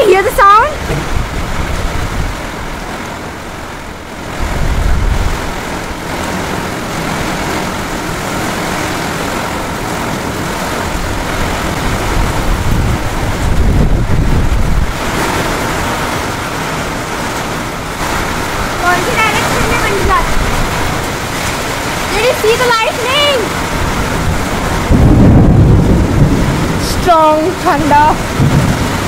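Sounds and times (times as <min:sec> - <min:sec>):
heavy rain on a metal roof: 0:00.0 - 0:29.0
low rushes: 0:00.0 - 0:29.0.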